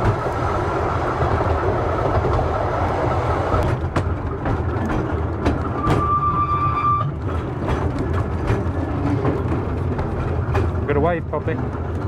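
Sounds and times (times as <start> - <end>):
tram rumbling along track: 0.0 - 12.0
wheels clicking on rails: 0.0 - 12.0.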